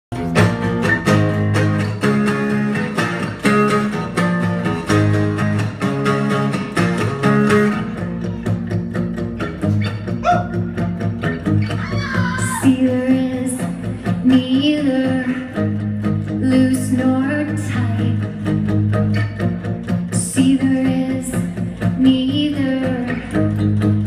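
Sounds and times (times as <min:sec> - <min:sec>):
acoustic guitars strumming chords: 0:00.1 - 0:24.0.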